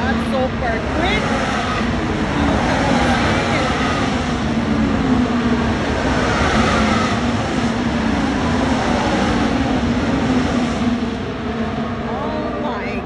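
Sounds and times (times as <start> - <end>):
racing cars passing: 0.0 - 13.0.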